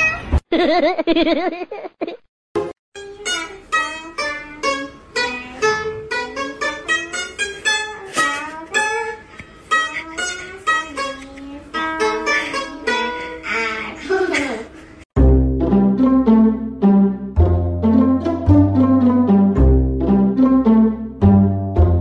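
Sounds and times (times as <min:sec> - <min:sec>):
plucked lute melody: 0:02.6 - 0:13.4, 0:15.2 - 0:22.0.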